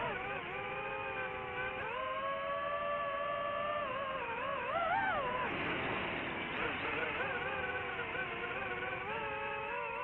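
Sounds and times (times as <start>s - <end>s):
model aircraft electric motor whine: 0.0s - 10.0s.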